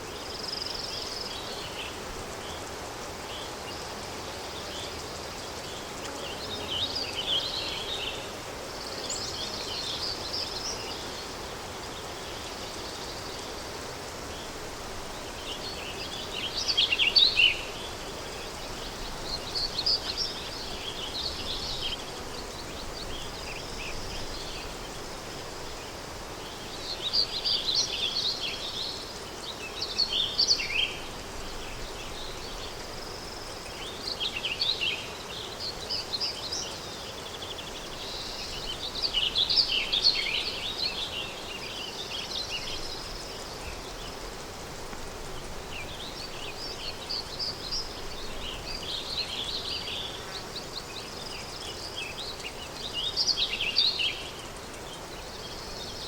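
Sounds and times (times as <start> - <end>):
soft wind hiss: 0.0 - 56.0
songbirds chirping: 0.0 - 56.0.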